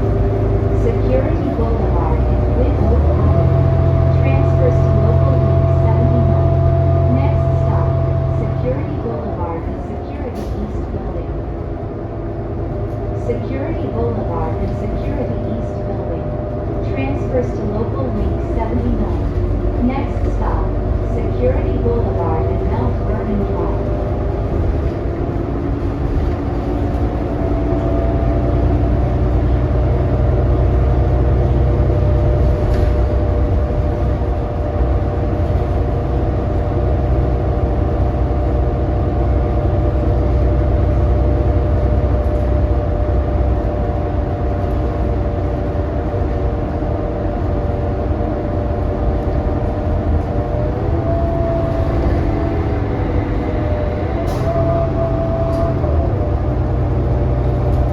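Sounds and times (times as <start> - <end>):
bus engine rumble: 0.0 - 57.9
drivetrain whine: 0.0 - 57.9.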